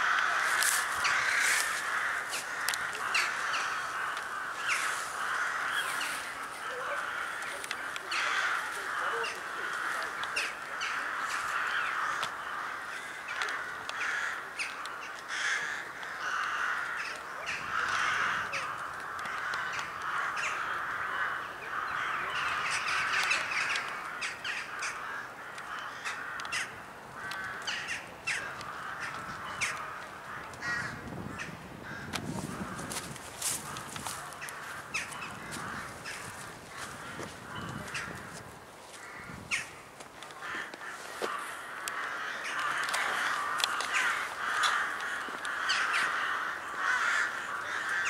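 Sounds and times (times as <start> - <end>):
crows cawing: 0.0 - 48.0.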